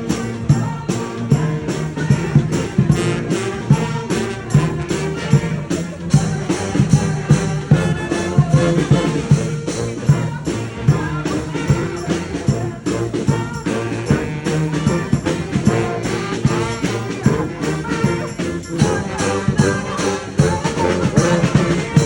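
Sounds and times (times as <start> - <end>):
brass horns playing: 0.0 - 22.0.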